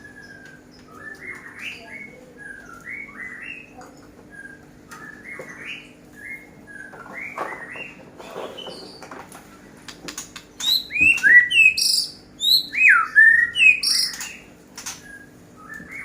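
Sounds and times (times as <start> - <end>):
songbird chirping: 0.0 - 9.9, 10.6 - 16.0.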